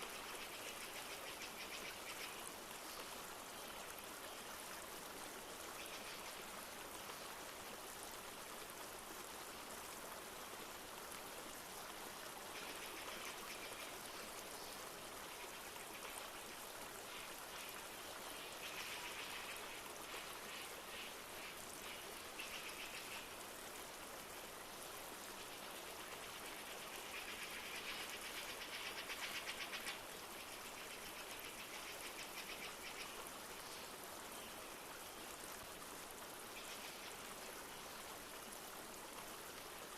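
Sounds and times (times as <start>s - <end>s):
rain hiss: 0.0s - 39.9s
river flowing: 0.0s - 39.9s.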